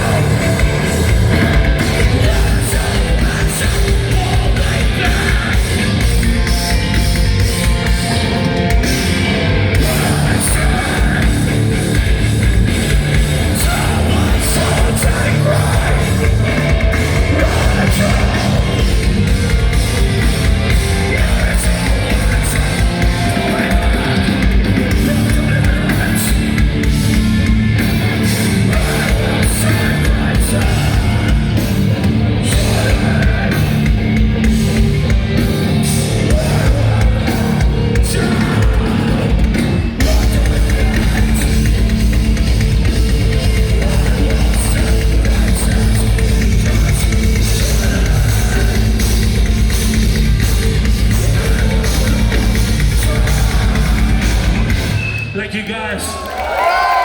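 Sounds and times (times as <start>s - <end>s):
heavy rock band playing: 0.0s - 57.0s.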